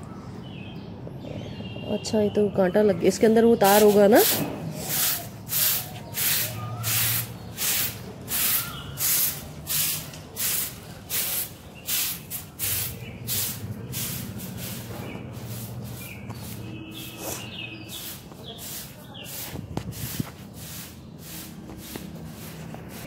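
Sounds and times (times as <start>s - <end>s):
stiff broom sweeping paving stones: 3.6s - 23.0s.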